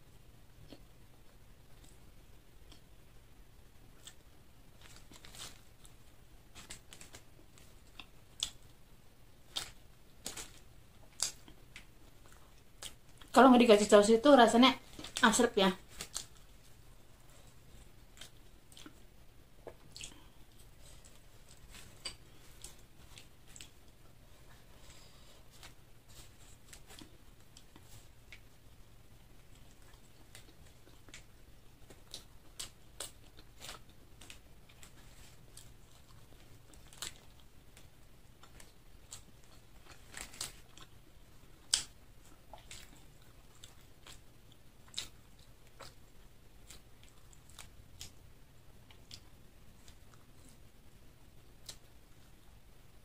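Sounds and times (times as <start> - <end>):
person chewing crispy food: 4.0 - 8.8, 9.4 - 13.4, 14.8 - 52.4.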